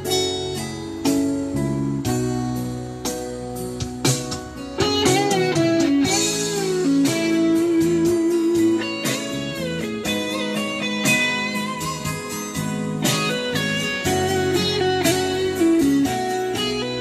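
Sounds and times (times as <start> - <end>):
plucked string lead: 0.0 - 17.0
steady beat: 0.0 - 17.0.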